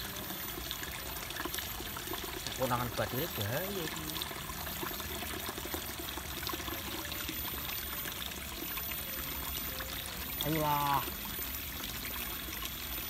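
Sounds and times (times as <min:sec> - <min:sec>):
running water trickling: 0:00.0 - 0:13.0.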